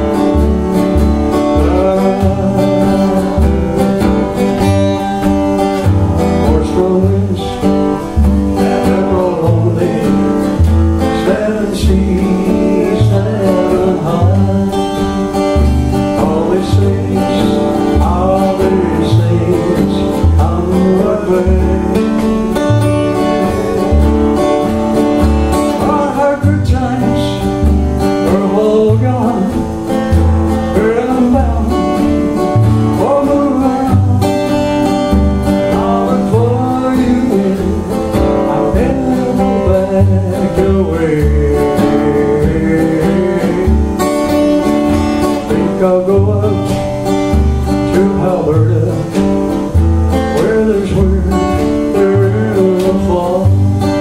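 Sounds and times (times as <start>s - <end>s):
man singing: 0.0s - 54.0s
organ accompaniment: 0.0s - 54.0s
rhythmic bass line: 0.0s - 54.0s
strummed acoustic guitar: 0.0s - 54.0s.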